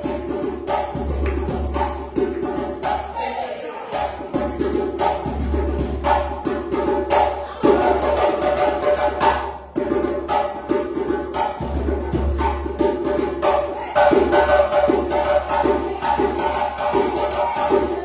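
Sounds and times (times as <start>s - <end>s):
djembe drumming: 0.0s - 18.0s.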